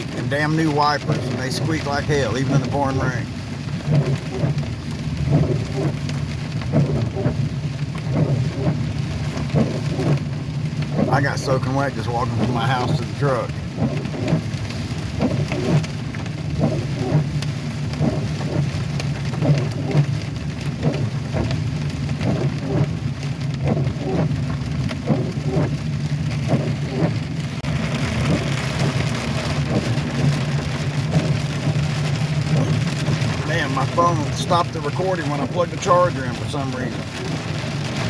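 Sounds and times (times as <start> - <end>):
engine and road hum: 0.0 - 38.0
heavy rain beating on truck: 0.0 - 38.0
windshield wipers squeaking: 0.0 - 38.0.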